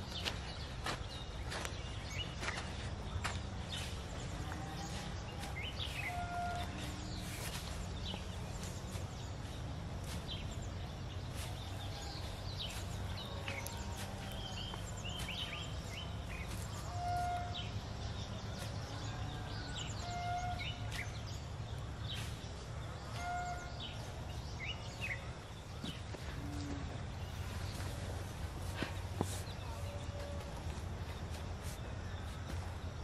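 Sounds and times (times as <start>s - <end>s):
small birds chirping: 0.0s - 33.0s
steady low rumble: 0.0s - 33.0s.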